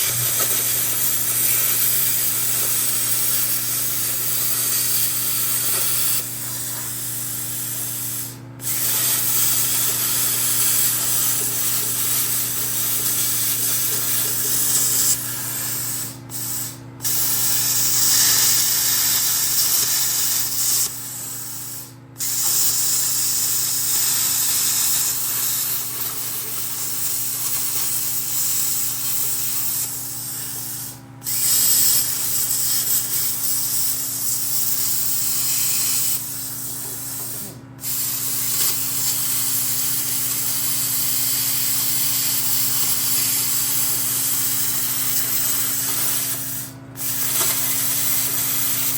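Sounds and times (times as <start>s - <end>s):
plasma cutter hissing: 0.0s - 48.9s.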